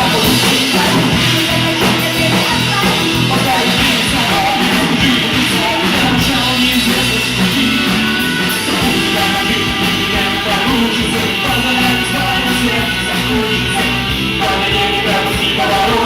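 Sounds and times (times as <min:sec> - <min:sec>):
band playing rock music: 0:00.0 - 0:16.0.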